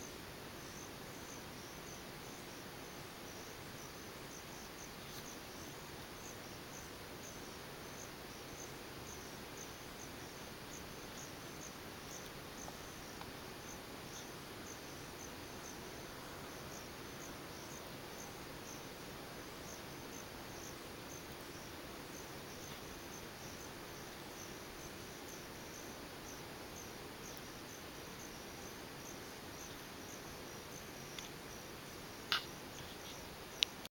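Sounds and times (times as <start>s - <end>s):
faint steady hiss: 0.0s - 33.9s
insects chirping: 0.0s - 33.9s.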